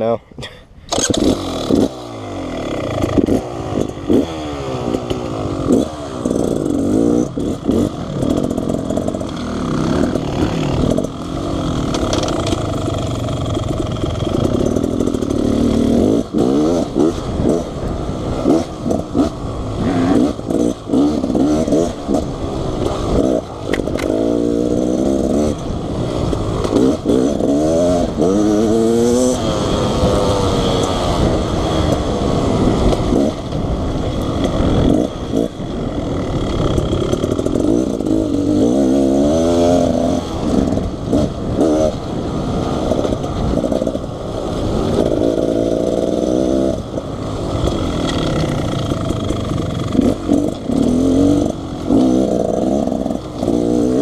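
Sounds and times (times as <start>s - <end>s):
dirt bike engine revving: 0.9s - 54.0s.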